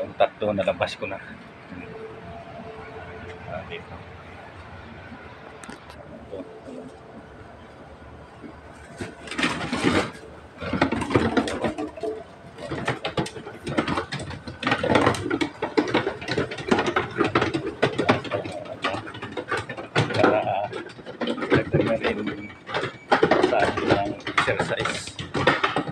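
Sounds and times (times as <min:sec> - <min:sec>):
garbage and cardboard rattling: 0:00.0 - 0:25.9.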